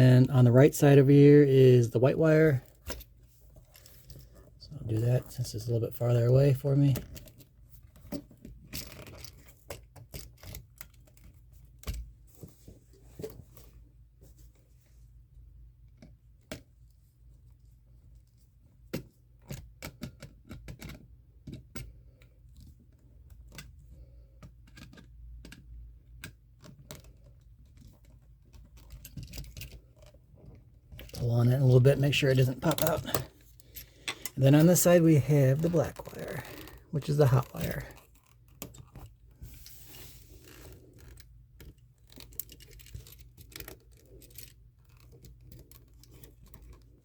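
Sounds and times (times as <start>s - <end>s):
small clicks and scratches: 2.5s - 15.0s, 15.8s - 47.0s.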